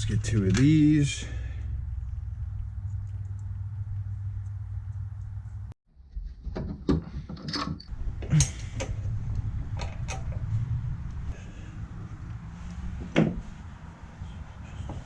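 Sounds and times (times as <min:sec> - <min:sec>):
steady low hum: 0:00.0 - 0:05.8, 0:07.9 - 0:15.0.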